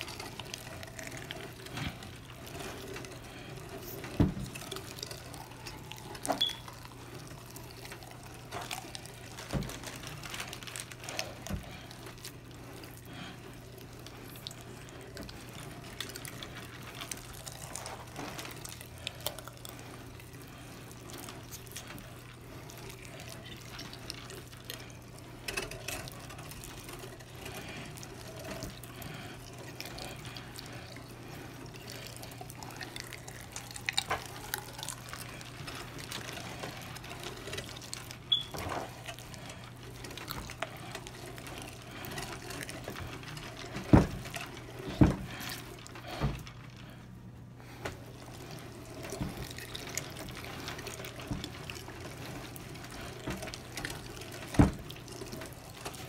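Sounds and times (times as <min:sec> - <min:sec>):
meat grinder humming: 0:00.0 - 0:56.0.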